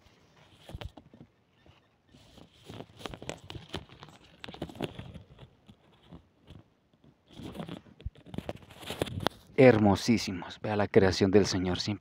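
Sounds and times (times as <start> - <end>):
rustling plants and leaves: 0.0 - 10.8.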